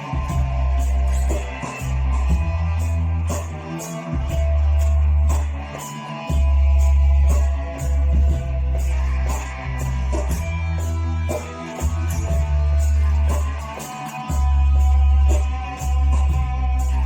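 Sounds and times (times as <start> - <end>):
guitar music: 0.0 - 17.0
heavy sustained bass: 0.0 - 17.0
high ticking beat: 0.0 - 17.0.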